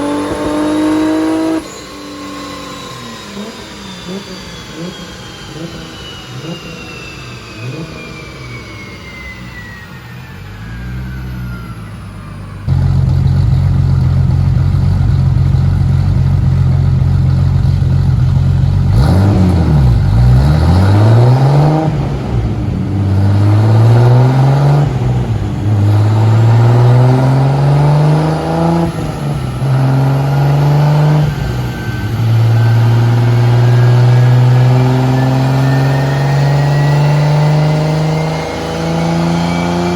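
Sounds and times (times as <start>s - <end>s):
car engine revving on a dyno: 0.0s - 39.9s
falling whine: 0.0s - 39.9s.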